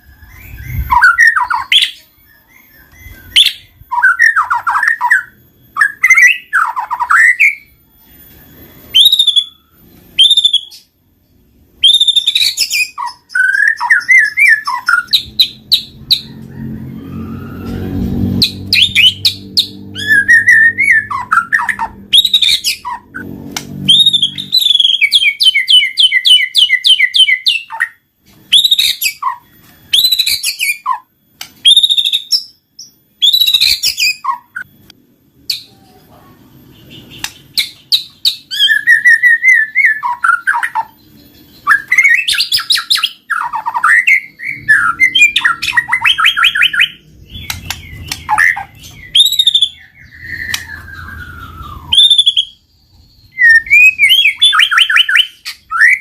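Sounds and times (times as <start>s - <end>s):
songbird singing whistles and trills: 0.0s - 16.4s, 17.1s - 34.8s, 36.7s - 56.0s.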